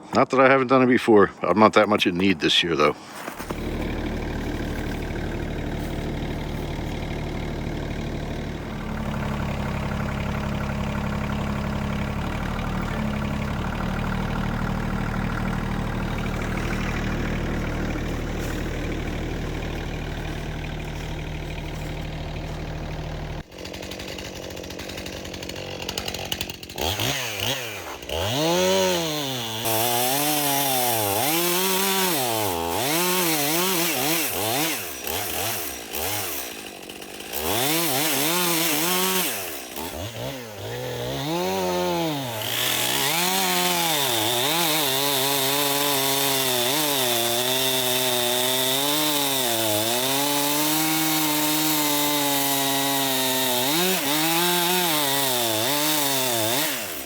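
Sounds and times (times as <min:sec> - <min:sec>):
chainsaw cutting wood: 0:03.1 - 0:57.0.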